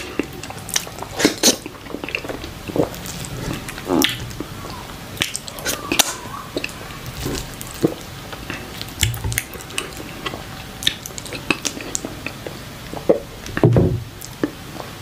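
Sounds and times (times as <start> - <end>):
chewing sounds: 0.0 - 13.6.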